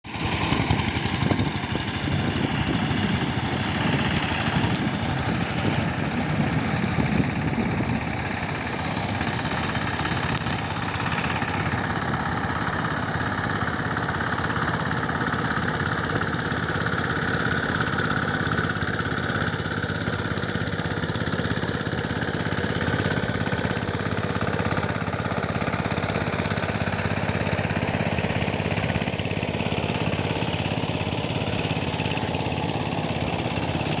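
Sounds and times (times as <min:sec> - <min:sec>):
power tiller engine chugging: 0:00.0 - 0:34.0.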